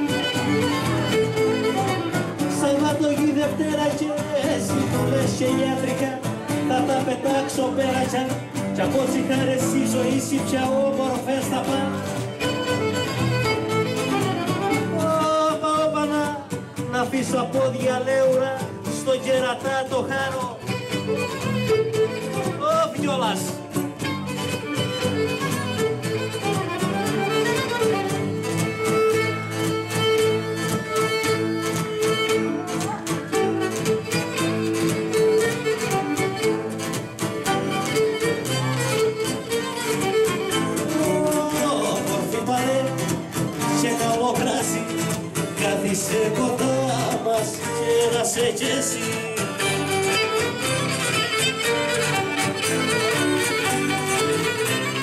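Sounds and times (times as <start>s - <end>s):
plucked lute: 0.0s - 55.0s
strummed acoustic guitar: 0.0s - 55.0s.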